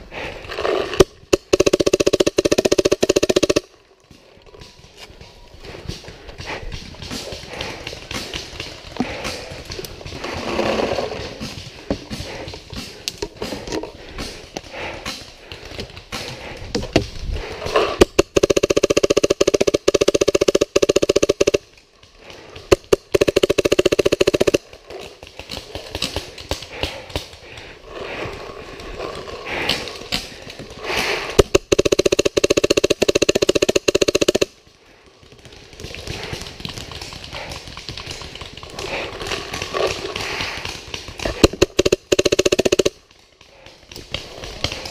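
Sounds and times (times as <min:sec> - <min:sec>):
paintball guns firing rapidly: 0:00.2 - 0:03.8, 0:04.6 - 0:16.6, 0:17.4 - 0:27.8, 0:29.5 - 0:44.9.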